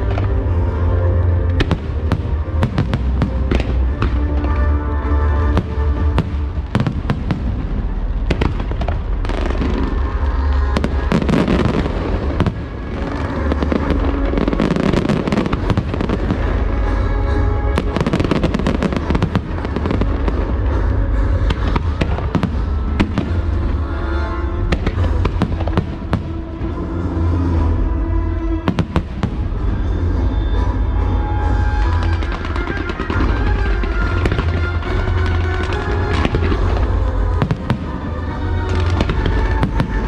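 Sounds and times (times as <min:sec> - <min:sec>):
fireworks bursting and crackling: 0:00.0 - 0:40.0
loud music: 0:00.0 - 0:40.0.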